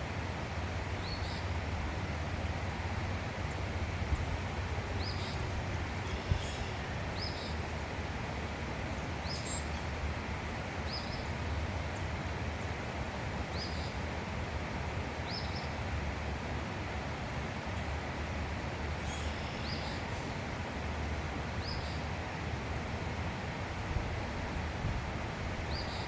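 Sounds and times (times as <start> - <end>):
outdoor background rumble: 0.0 - 26.0.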